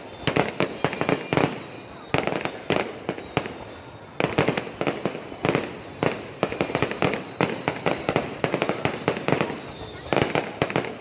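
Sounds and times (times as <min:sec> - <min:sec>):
fireworks bangs and pops: 0:00.0 - 0:11.0
fireworks crackling: 0:00.0 - 0:11.0.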